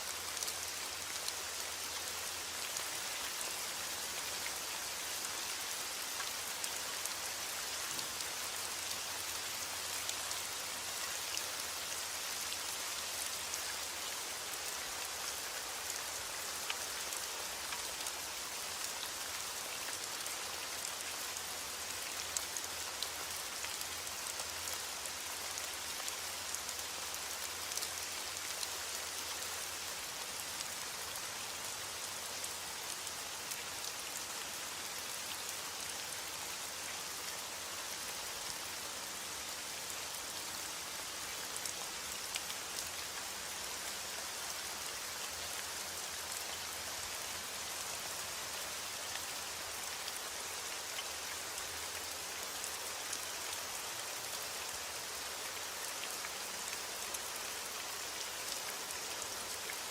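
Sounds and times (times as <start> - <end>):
steady rain on a surface: 0.0 - 59.9.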